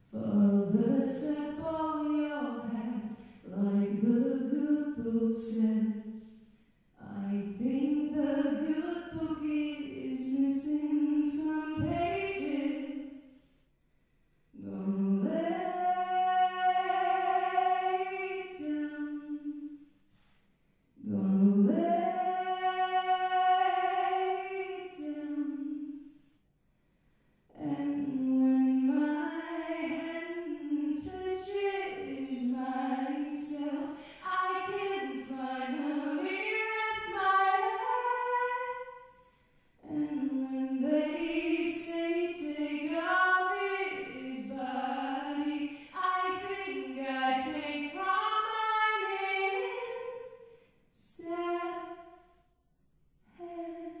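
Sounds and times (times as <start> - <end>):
woman singing unaccompanied: 0.0 - 6.3, 7.0 - 13.4, 14.6 - 19.6, 21.0 - 25.9, 27.5 - 38.9, 39.8 - 50.2, 51.0 - 52.0, 53.3 - 54.0.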